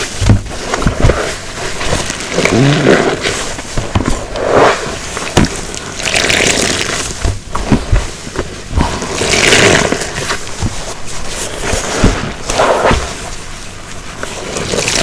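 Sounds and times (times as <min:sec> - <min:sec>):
sponge squelching: 0:00.0 - 0:15.0
soapy water running: 0:00.1 - 0:15.0.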